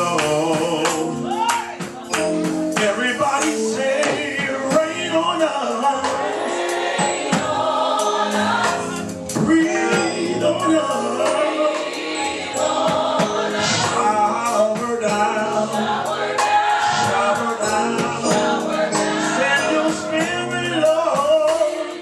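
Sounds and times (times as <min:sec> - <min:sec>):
band playing gospel music: 0:00.0 - 0:22.0
choir singing: 0:01.1 - 0:22.0.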